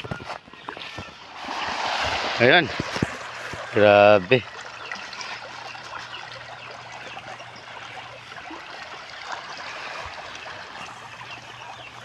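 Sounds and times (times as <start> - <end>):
pond water splashing and trickling: 0.0 - 12.0.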